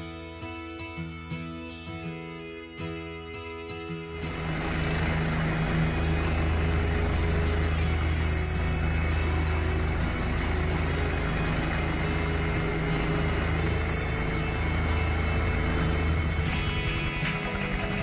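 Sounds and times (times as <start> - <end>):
helicopter engine and rotor drone: 3.0 - 18.0.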